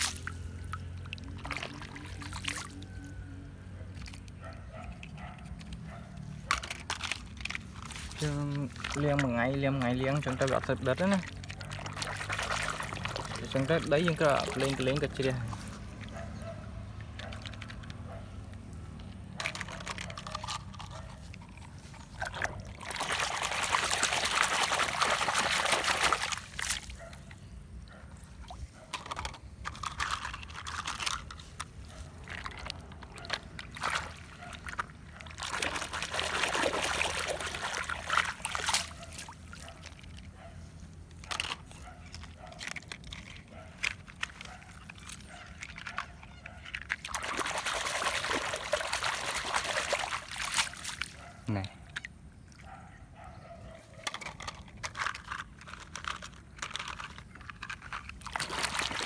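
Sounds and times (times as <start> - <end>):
water pouring and splashing: 0.0 - 27.4, 28.1 - 52.8, 53.8 - 59.0
water sloshing and trickling: 0.0 - 59.0.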